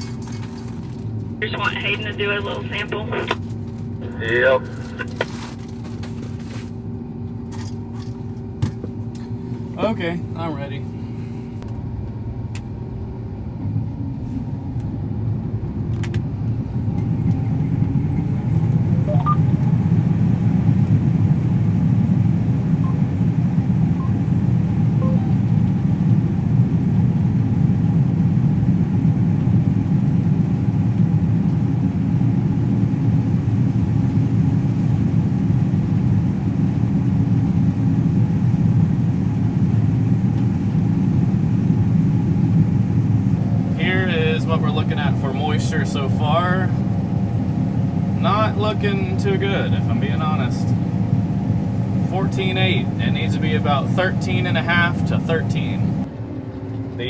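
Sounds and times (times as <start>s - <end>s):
combine harvester rumbling: 0.0s - 57.0s.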